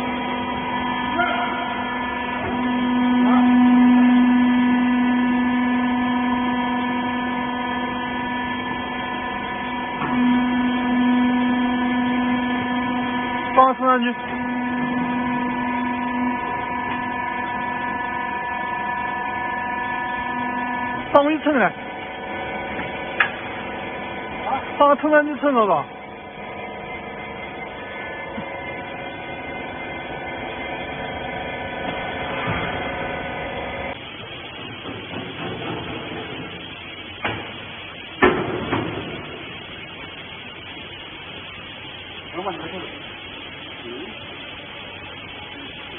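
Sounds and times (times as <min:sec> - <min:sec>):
hydraulic machine hum: 0:00.0 - 0:45.9.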